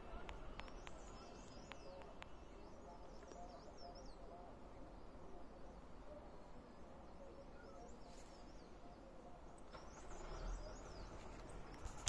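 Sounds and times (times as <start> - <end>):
bird chirping: 0.1 - 12.0.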